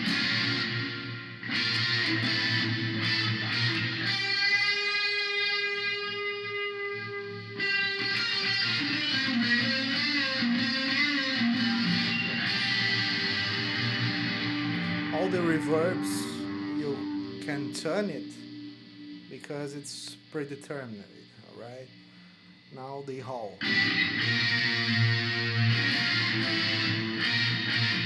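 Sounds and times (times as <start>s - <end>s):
electric guitar with reverb: 0.0s - 28.0s.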